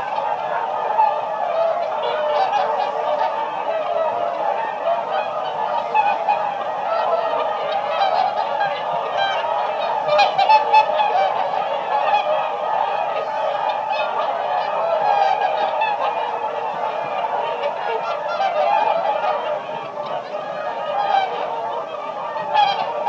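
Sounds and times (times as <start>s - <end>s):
swans calling: 0.0s - 23.0s.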